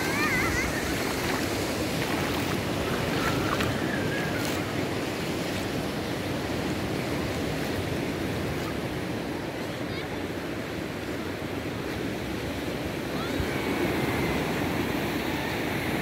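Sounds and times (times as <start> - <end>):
waves washing onto sandy beach: 0.0 - 16.0.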